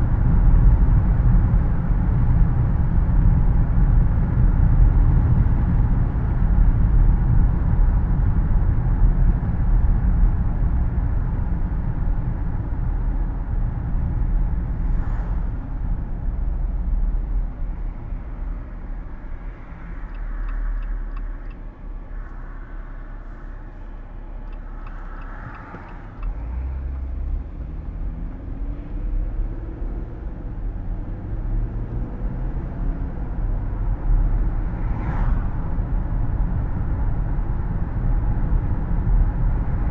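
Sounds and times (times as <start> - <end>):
car engine accelerating: 0.0 - 39.9
tyre and road rumble: 4.1 - 39.8.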